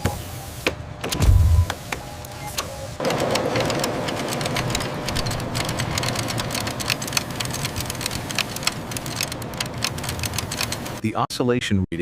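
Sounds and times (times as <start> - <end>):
steady machine whir: 0.0 - 11.0
factory machinery clattering: 1.0 - 11.0.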